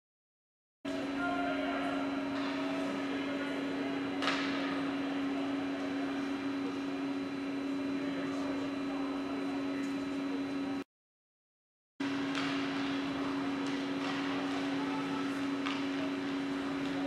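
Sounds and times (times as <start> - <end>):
mechanical hum: 0.9 - 10.9, 12.0 - 17.0.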